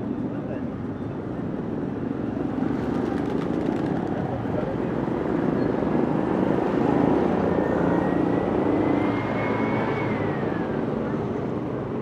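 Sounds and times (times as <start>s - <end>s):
traffic street noise: 0.0s - 12.0s.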